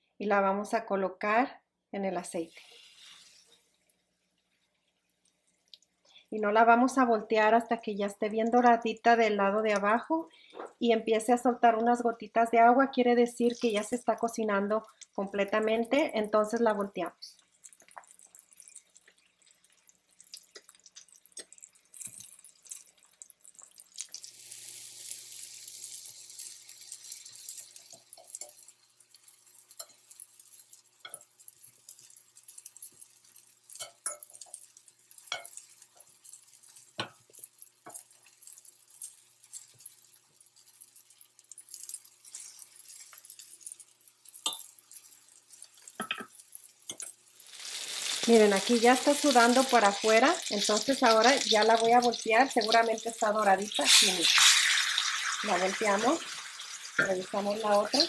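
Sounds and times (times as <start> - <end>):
chicken sizzling in oil: 2.3 - 6.3, 13.4 - 58.0
oil popping and crackling: 2.8 - 6.1, 13.4 - 58.0.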